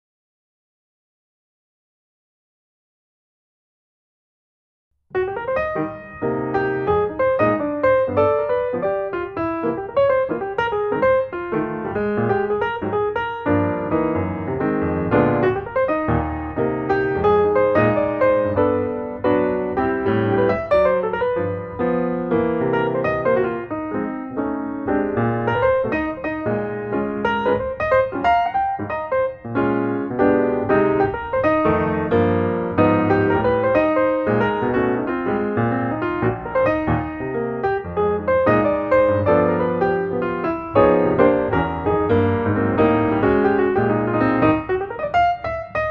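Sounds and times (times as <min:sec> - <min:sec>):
piano music: 0:05.1 - 0:45.9.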